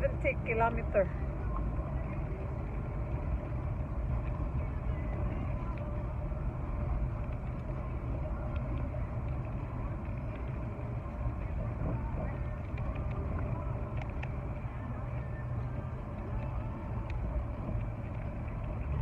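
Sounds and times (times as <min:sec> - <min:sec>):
car cabin road and wind noise: 0:00.0 - 0:19.0.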